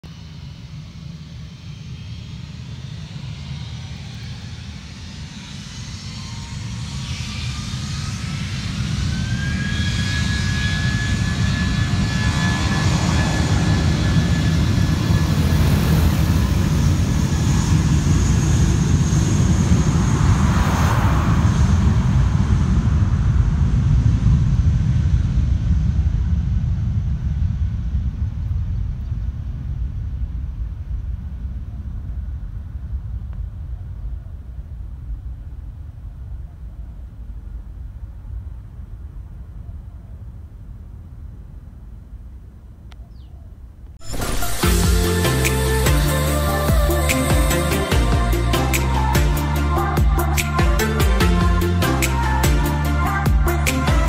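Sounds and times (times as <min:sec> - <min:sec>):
jet engine whine: 0:00.0 - 0:43.0, 0:43.8 - 0:54.0
deep jet engine rumble: 0:00.0 - 0:54.0.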